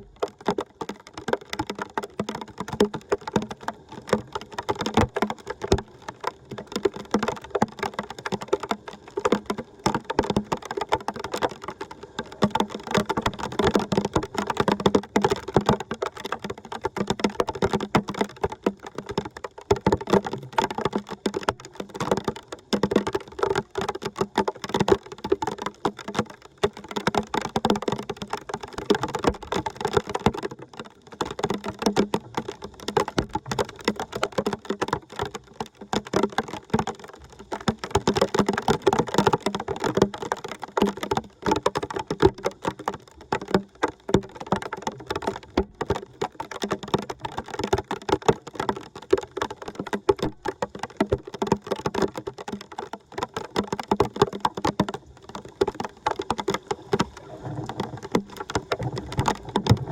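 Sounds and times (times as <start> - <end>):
water splashing and gurgling: 0.0 - 59.9.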